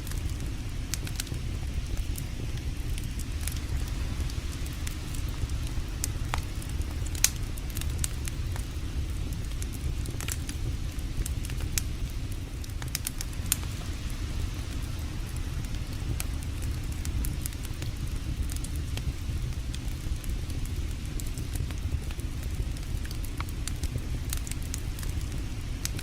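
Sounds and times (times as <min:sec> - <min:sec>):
campfire crackling: 0:00.0 - 0:26.0
sharp fire pops: 0:00.0 - 0:26.0
steady low rumble: 0:00.0 - 0:26.0.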